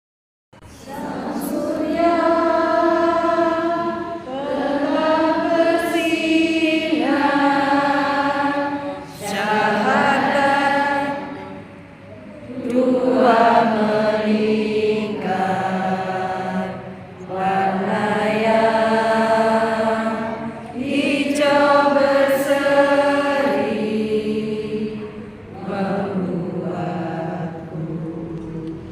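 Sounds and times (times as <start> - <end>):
group of voices chanting in unison: 0.7 - 28.9.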